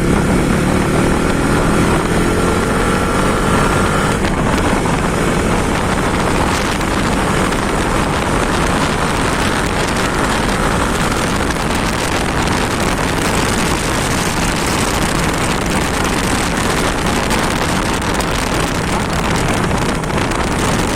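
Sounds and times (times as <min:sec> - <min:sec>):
motorcycle engine drone: 0:00.0 - 0:20.9
wind rushing on microphone: 0:00.0 - 0:20.9.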